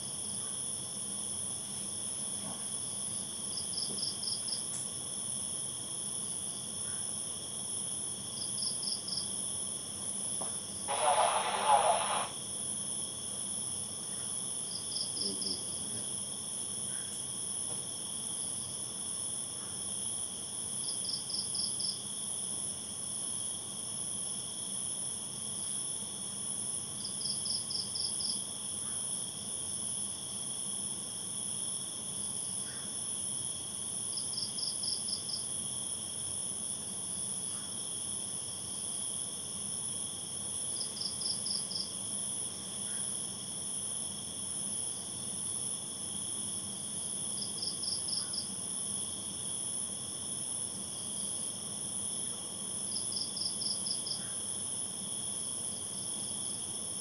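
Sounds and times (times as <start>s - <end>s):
crickets trilling: 0.0s - 57.0s
rapid insect chirps: 2.7s - 57.0s.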